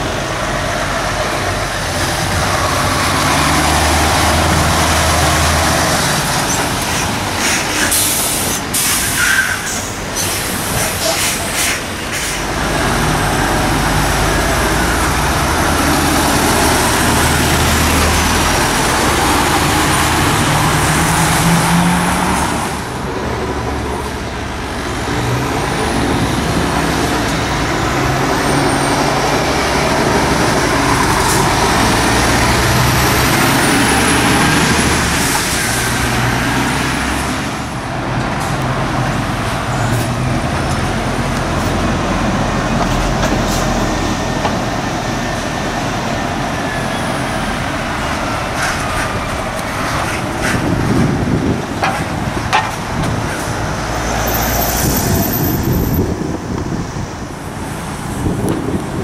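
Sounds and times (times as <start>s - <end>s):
diesel engines running: 0.0s - 59.0s
lorries driving past: 0.0s - 59.0s
tyres rolling on road: 0.0s - 59.0s.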